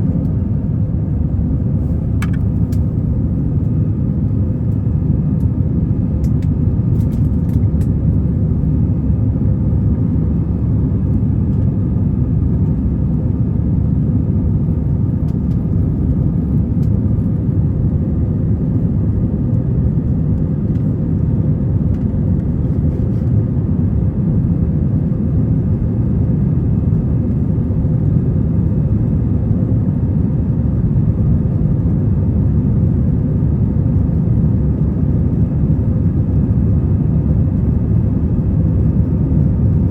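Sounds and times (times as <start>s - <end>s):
airliner engine rumble in cabin: 0.0s - 39.9s.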